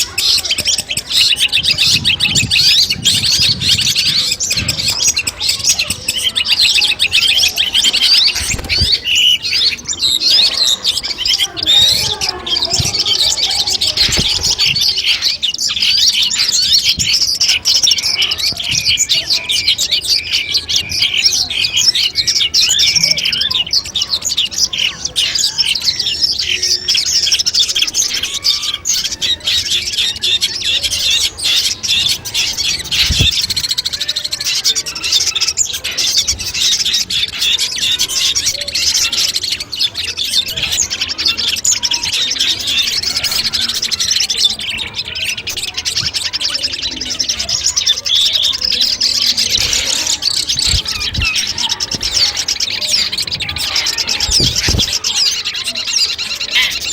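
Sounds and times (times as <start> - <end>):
bird chattering song: 0.0 - 56.9.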